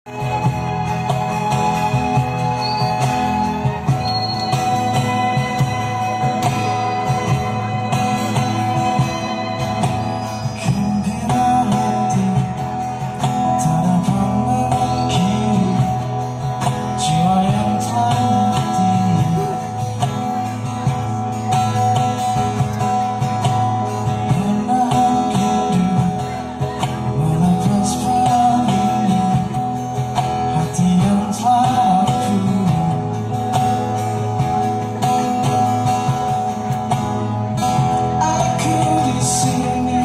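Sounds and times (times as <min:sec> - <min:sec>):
acoustic guitar song: 0:00.1 - 0:40.0.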